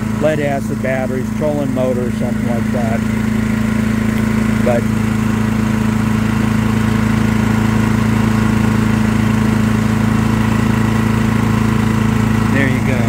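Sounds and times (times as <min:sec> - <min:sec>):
generator running: 0:00.0 - 0:13.0.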